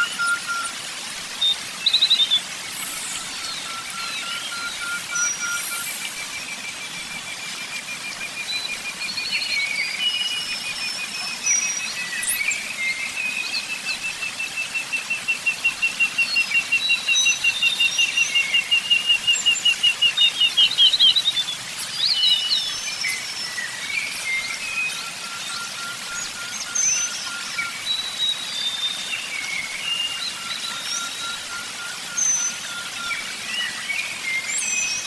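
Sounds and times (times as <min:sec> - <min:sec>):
songbirds chirping and whistling: 0:00.0 - 0:35.0.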